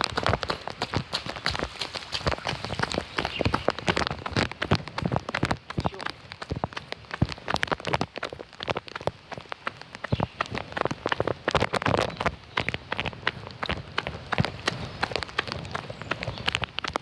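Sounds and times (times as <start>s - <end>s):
raindrops hitting close: 0.0s - 17.0s.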